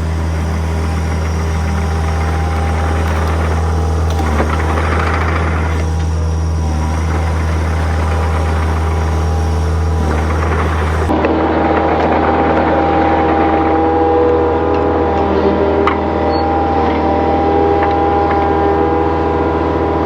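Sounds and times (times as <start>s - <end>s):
heavy machine engine humming: 0.0s - 20.0s.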